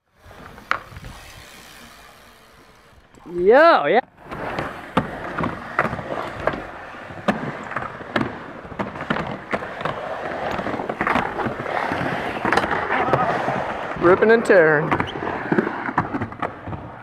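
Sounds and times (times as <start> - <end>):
skateboard wheels rolling on concrete: 0.0 - 17.0
skateboards clacking on ground: 0.2 - 17.0.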